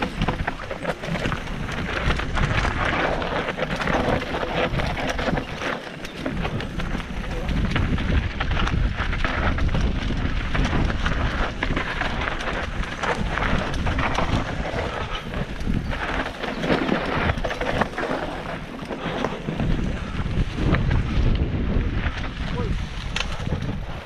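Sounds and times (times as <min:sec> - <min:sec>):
tyres crunching on dirt and stones: 0:00.0 - 0:23.8
bike clicks and rattles: 0:00.0 - 0:24.0
wind buffeting microphone: 0:00.0 - 0:24.0.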